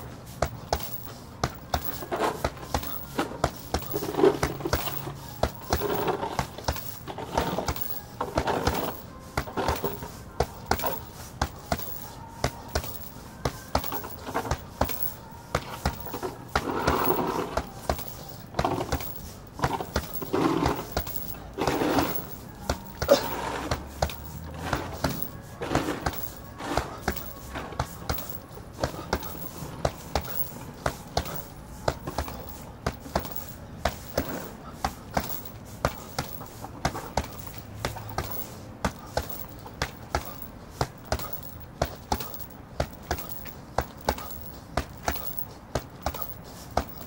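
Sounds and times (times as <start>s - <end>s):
gloves punching heavy bag: 0.0s - 47.0s.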